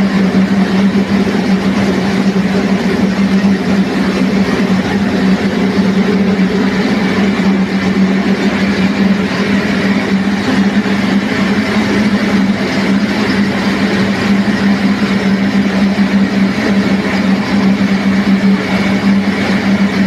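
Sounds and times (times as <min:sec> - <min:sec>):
dense rushing noise: 0:00.0 - 0:20.0
milling machine hum: 0:00.0 - 0:20.0.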